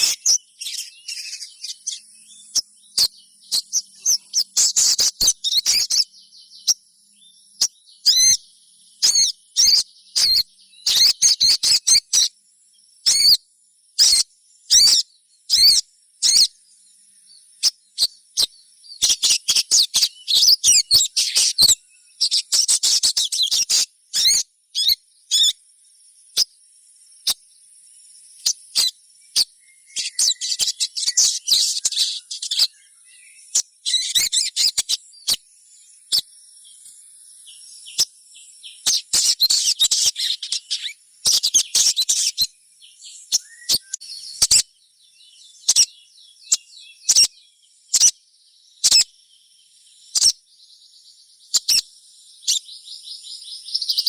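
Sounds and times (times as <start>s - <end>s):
birds chirping rapidly: 0.0s - 54.0s.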